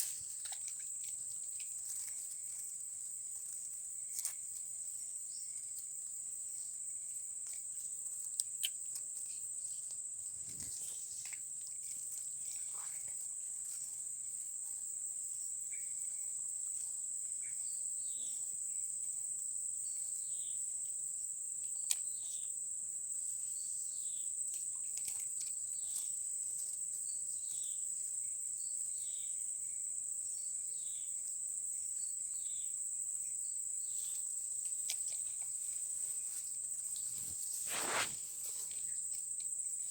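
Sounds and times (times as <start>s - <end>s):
crickets chirping chorus: 0.0s - 39.9s.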